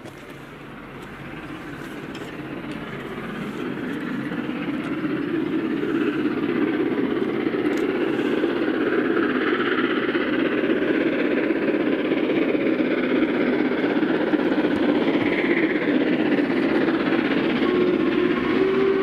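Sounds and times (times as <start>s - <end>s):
steam locomotive hauling train: 0.0s - 19.0s.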